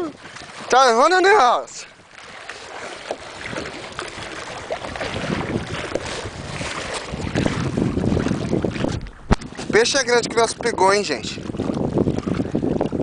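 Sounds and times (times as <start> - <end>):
water sloshing against hull: 0.0 - 13.0
wind buffeting microphone: 0.0 - 13.0.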